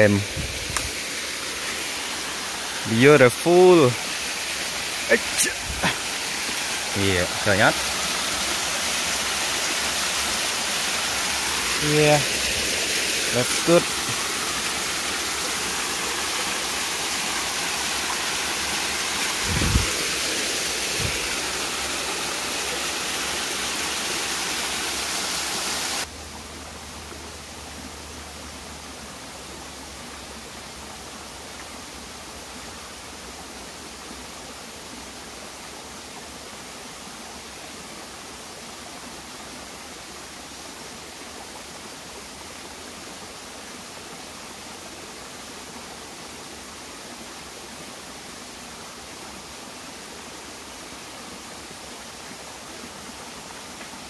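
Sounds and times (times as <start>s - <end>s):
shallow stream burbling: 0.0s - 54.0s
waterfall splashing over rocks: 0.0s - 54.0s.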